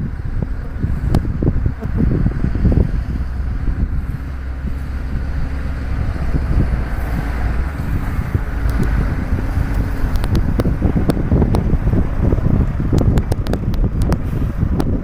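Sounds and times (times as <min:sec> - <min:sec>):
vehicle engine running: 0:00.0 - 0:15.0
wind rumble on microphone: 0:00.0 - 0:15.0.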